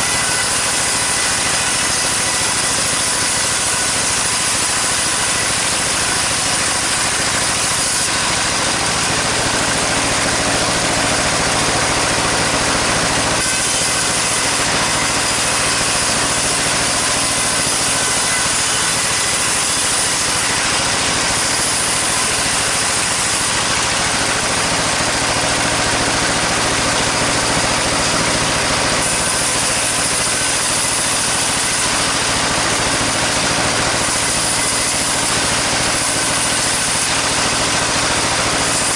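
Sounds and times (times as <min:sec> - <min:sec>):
engine drone: 0:00.0 - 0:38.9
saw hissing through timber: 0:00.0 - 0:38.9.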